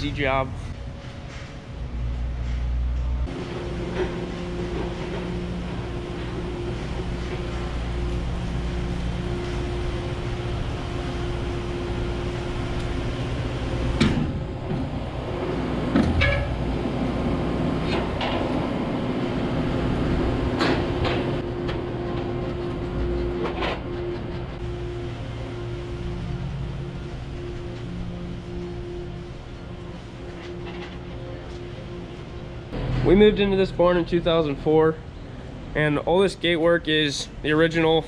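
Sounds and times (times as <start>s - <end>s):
skid loader engine running: 0.0s - 34.5s.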